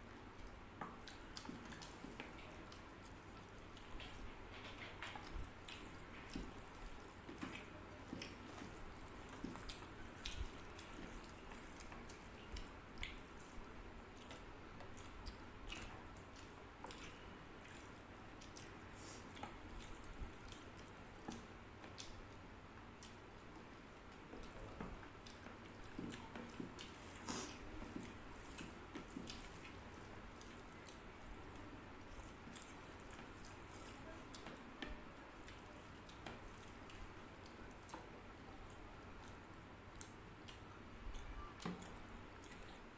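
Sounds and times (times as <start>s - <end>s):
chewing and lip smacks: 0.3s - 42.9s.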